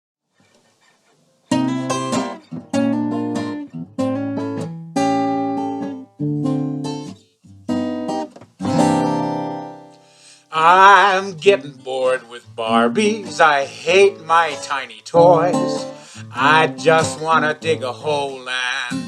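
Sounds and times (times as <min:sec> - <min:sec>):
acoustic guitar strumming chords: 0:01.5 - 0:19.0.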